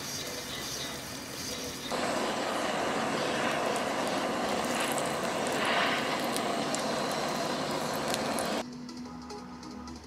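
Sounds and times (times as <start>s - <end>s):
gas torch hissing: 0.0s - 8.6s.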